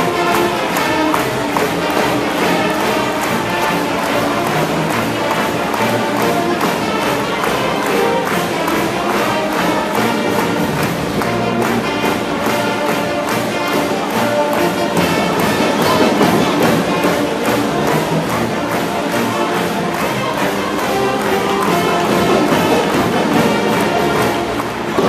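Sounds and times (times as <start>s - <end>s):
pep band brass music: 0.0s - 25.0s.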